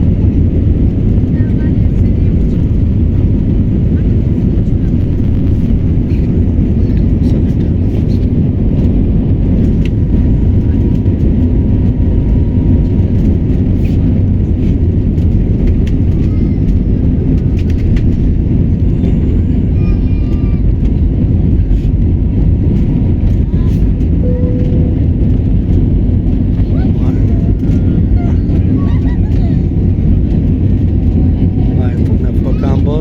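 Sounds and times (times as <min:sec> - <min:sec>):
jet engines roaring in cabin: 0:00.0 - 0:33.0.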